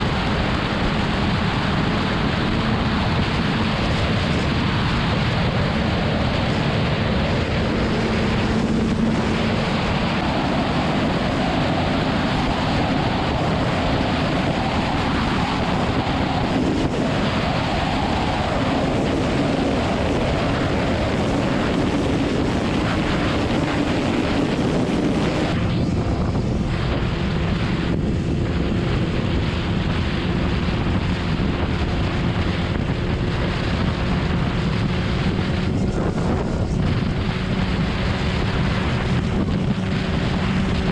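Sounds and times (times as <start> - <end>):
motorcycle engine droning: 0.0 - 40.9
wind roaring over microphone: 0.0 - 40.9.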